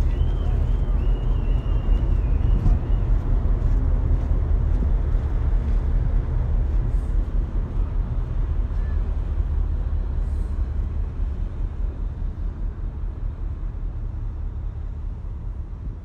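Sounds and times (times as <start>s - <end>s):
ship diesel engines rumbling: 0.0s - 15.8s
wind buffeting microphone: 0.0s - 16.0s.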